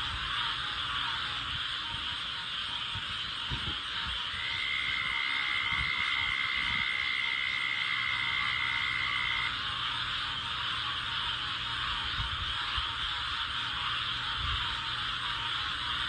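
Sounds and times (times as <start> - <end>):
high insect trill: 0.0 - 16.0
insect hiss: 0.0 - 16.0
frog croaks: 0.2 - 16.0.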